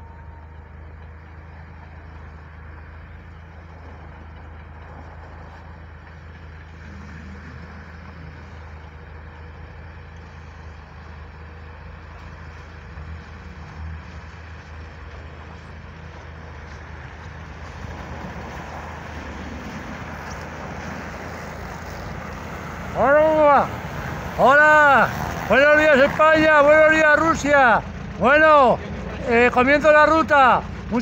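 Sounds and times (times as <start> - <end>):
road noise: 0.0 - 31.0
vehicle engine drone: 0.0 - 31.0.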